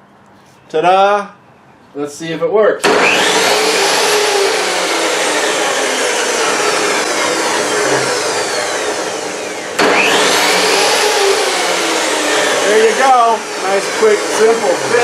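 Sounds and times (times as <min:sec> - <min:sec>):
table saw spinning up and down: 0:02.8 - 0:15.0.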